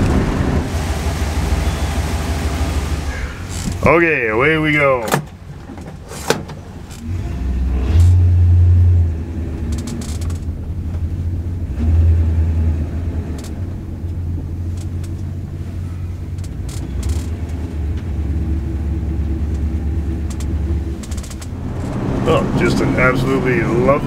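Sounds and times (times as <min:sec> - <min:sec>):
car engine rumble from inside: 0:00.0 - 0:24.0.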